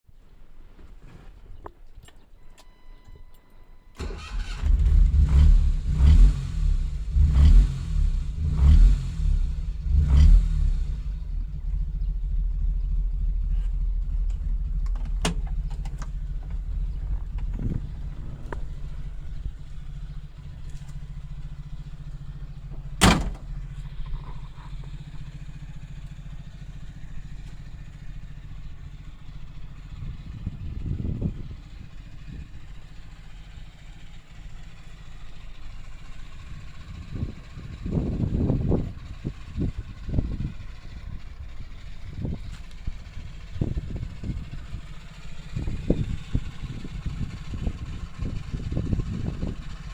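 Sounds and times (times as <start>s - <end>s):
car engine starting and idling: 0.4s - 49.9s.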